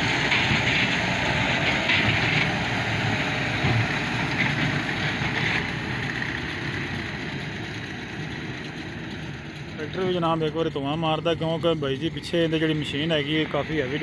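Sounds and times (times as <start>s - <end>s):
baler machinery working: 0.0s - 14.0s
tractor diesel engine under load: 0.0s - 14.0s.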